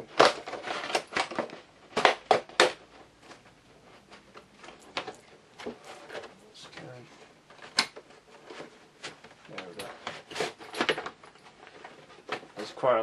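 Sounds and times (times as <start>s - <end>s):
packaging rustling and crumpling: 0.0s - 13.0s.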